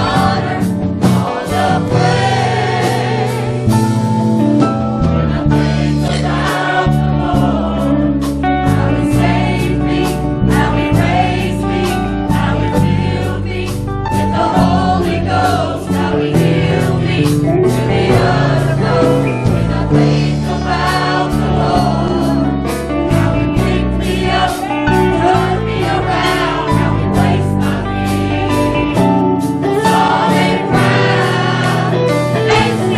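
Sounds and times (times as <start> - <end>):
choir singing: 0.0 - 4.0, 5.0 - 32.9
band playing gospel music: 0.0 - 32.9
steady drum beat: 0.0 - 32.9.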